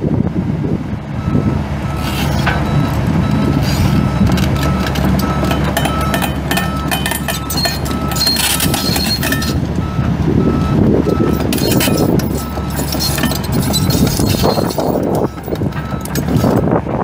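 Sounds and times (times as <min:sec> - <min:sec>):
excavator diesel engine running: 0:00.1 - 0:17.0
metallic clanking: 0:01.9 - 0:09.9, 0:11.0 - 0:16.8.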